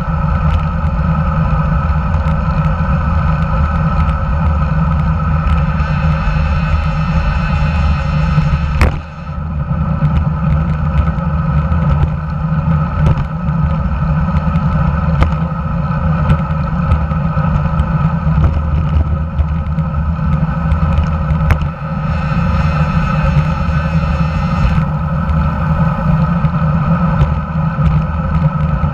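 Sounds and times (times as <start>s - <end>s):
road noise: 0.0s - 28.9s
wind rush: 0.0s - 28.9s.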